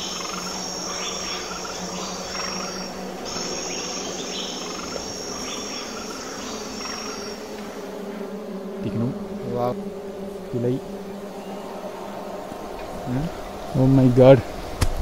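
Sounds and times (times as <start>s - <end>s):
insects shrilling: 0.0s - 14.8s.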